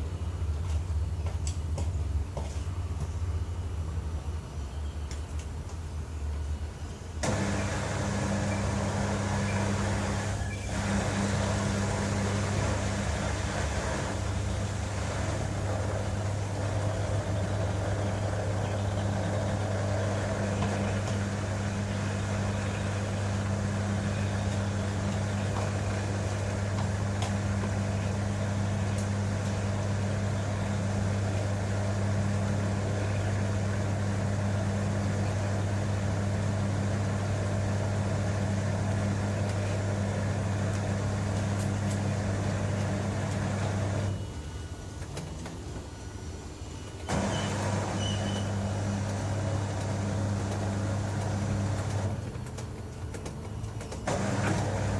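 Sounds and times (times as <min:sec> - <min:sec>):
washing machine humming: 0:00.0 - 0:54.9.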